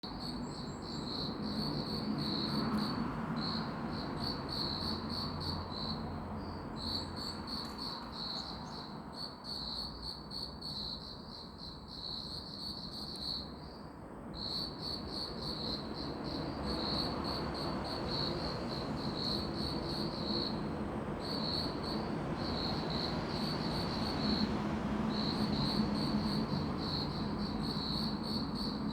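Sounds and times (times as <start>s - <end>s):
crickets chirping: 0.1s - 28.9s.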